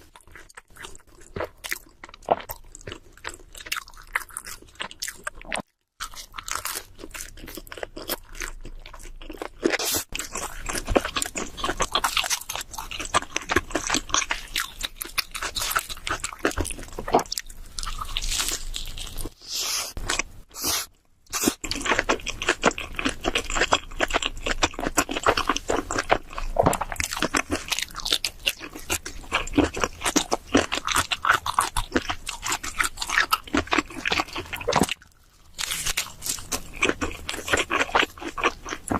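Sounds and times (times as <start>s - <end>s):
chewing and biting: 0.0s - 38.9s
crunching of pizza crust: 0.0s - 38.9s.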